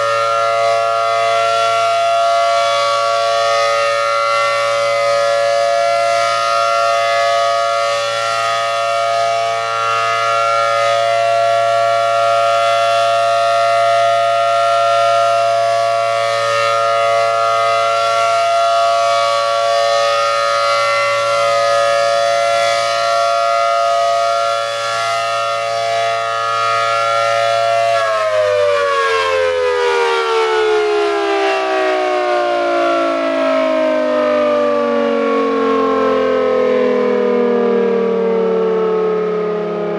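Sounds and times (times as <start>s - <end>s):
electromechanical siren two-tone chord: 0.0s - 39.9s.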